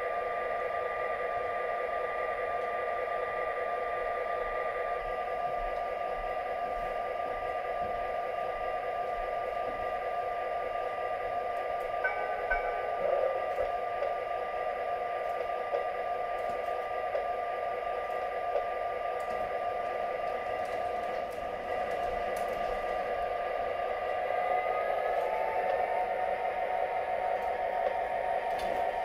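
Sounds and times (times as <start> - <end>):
model train electric hum: 0.0 - 29.0.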